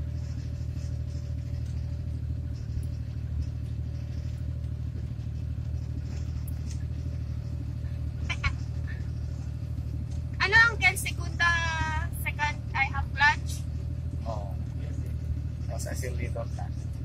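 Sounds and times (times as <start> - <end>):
car engine drone inside cabin: 0.0 - 17.0.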